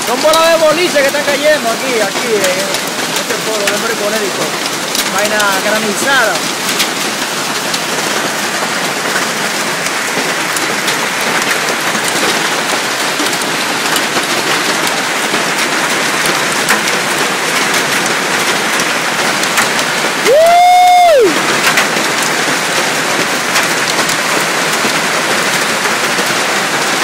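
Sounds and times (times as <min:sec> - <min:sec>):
hail and rain pelting down: 0:00.0 - 0:27.0
hailstones ticking: 0:00.0 - 0:27.0.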